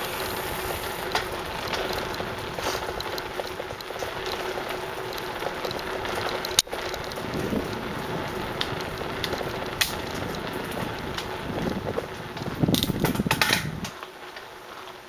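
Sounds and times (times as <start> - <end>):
bicycle tyres rattling on trail: 0.0 - 15.0.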